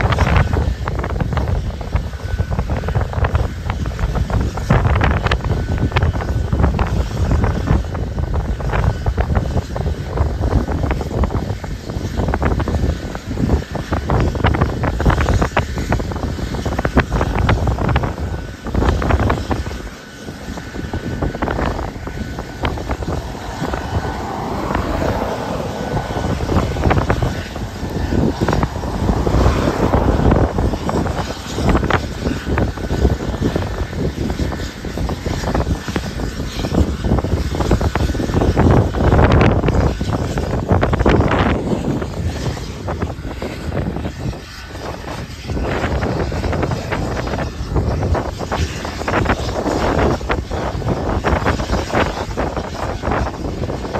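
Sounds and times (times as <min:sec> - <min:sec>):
distant helicopter engine and rotor: 0:00.0 - 0:53.9
wind buffeting microphone: 0:00.0 - 0:53.9.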